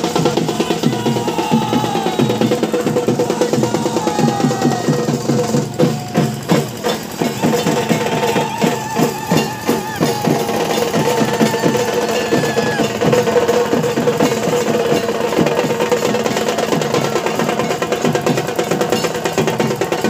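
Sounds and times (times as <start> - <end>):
fast even drumming: 0.0 - 20.0.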